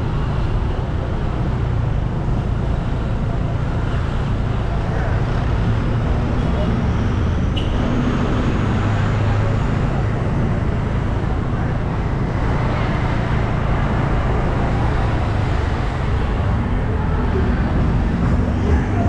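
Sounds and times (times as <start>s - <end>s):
tyre noise on road: 0.0s - 19.0s
vehicle engines humming: 0.0s - 19.0s.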